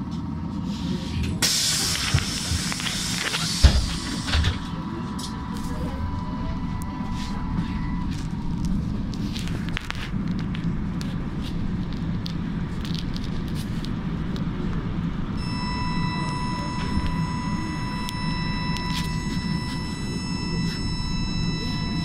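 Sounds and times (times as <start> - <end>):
trolleybus rumble: 0.0 - 22.0
thin steady whine: 1.5 - 22.0.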